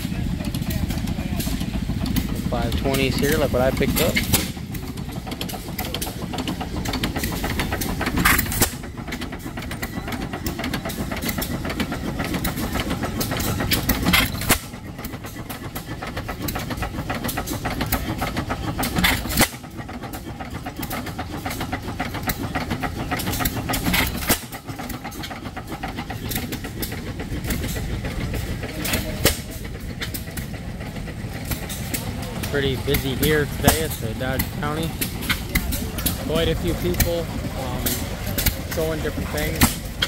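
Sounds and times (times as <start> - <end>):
old gas engines chuffing: 0.0 - 40.0.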